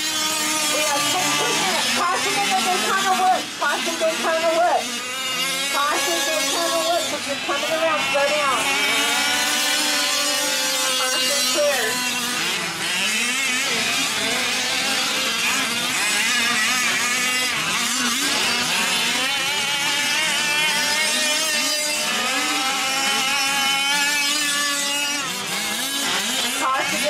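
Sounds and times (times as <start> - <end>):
small engines buzzing and revving: 0.0 - 27.0.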